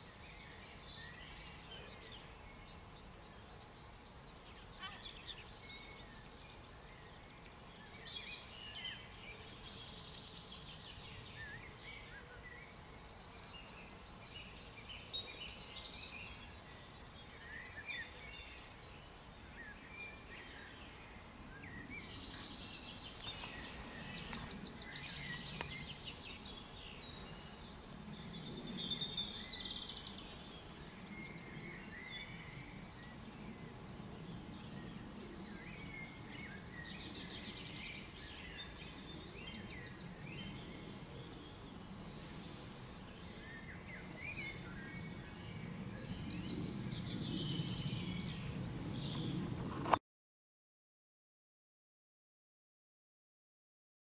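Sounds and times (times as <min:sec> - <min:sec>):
songbirds singing: 0:00.0 - 0:50.0.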